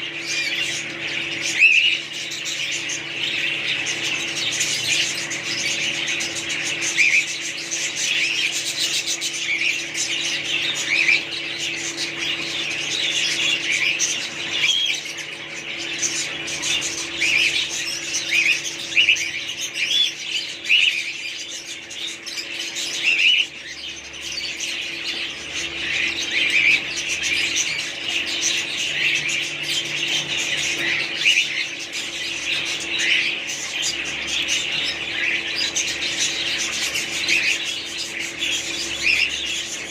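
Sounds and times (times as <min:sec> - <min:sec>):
parrots chirping and squawking: 0:00.0 - 0:39.9
steady low hum: 0:00.0 - 0:39.9.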